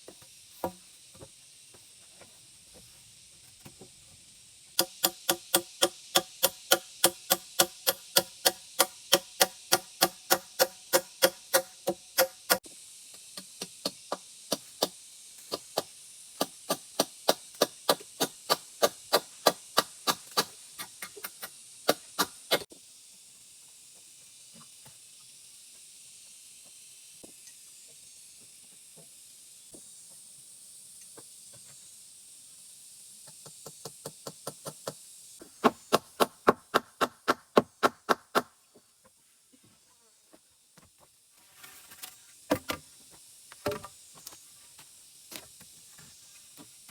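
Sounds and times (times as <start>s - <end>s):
faint high hiss: 0.0s - 46.9s.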